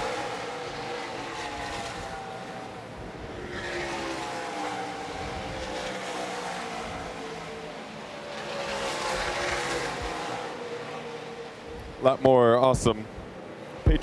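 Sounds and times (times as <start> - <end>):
race engines passing: 0.0 - 14.0.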